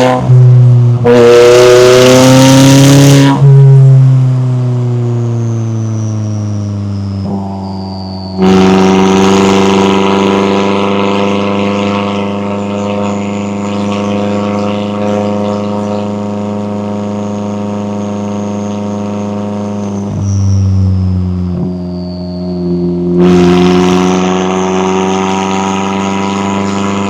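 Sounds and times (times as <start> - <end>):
car exhaust revving and droning: 0.0 - 27.0.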